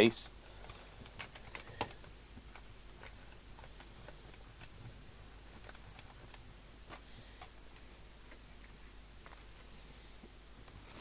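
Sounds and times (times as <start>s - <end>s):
low mains hum: 0.0s - 11.0s.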